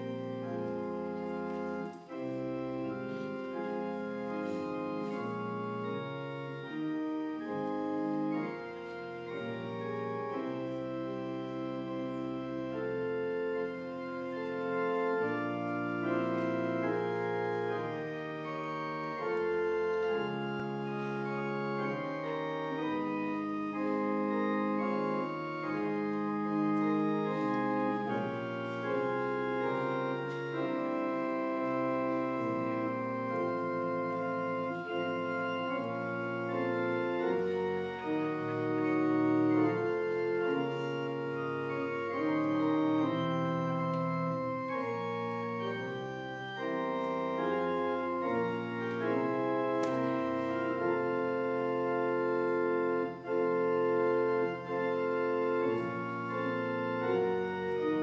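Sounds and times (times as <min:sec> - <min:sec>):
organ playing held chords: 0:00.0 - 0:58.0.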